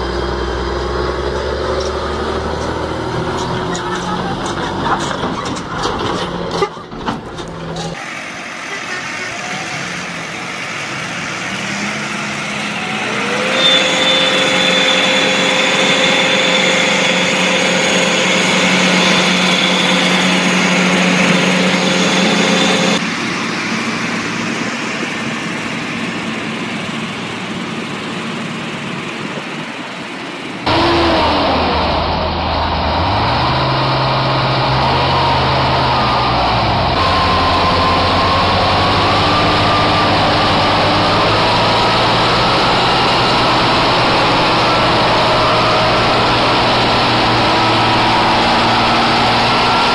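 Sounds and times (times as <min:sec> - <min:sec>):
heavy diesel engines working hard: 0:00.0 - 0:49.9.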